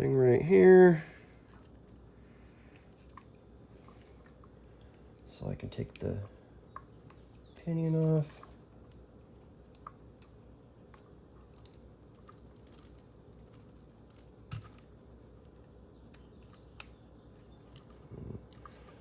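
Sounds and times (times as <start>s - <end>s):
small parts handling: 1.1s - 19.0s.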